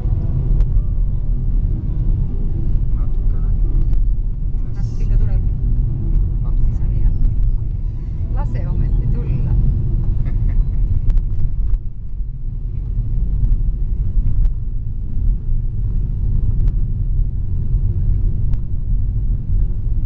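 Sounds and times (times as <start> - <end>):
tyres and engine rumbling on gravel: 0.0 - 20.0.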